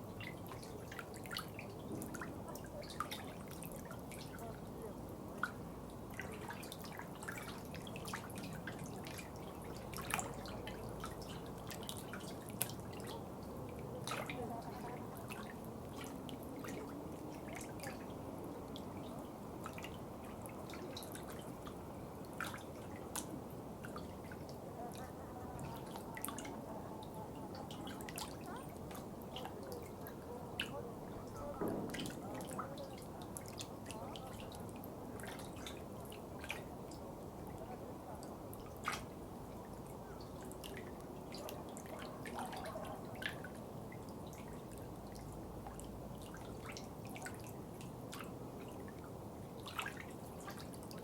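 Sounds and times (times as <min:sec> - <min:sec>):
water drips: 0:00.0 - 0:51.0
water trickling: 0:00.0 - 0:51.0.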